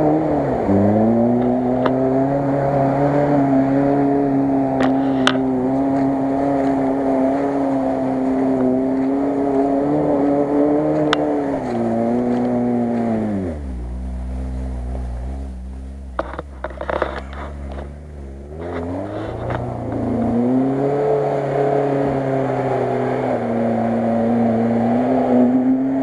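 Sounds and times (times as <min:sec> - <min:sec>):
car engine revving high: 0:00.0 - 0:26.0.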